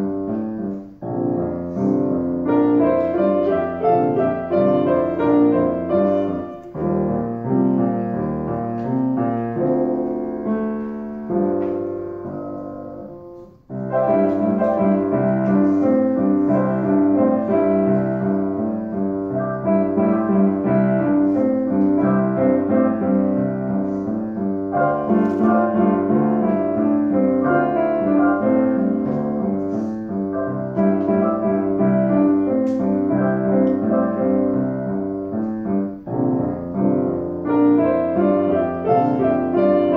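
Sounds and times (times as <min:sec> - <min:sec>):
piano playing notes and chords: 0:00.0 - 0:39.9.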